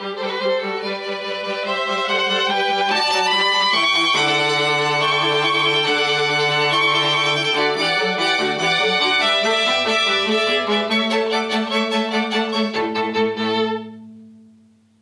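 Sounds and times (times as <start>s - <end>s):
string quartet playing: 0.0s - 14.4s.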